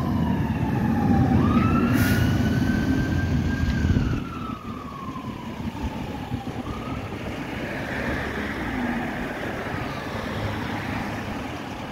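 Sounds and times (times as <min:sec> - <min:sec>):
fire engine wail siren: 0:00.0 - 0:11.9
passing road traffic: 0:00.0 - 0:11.9.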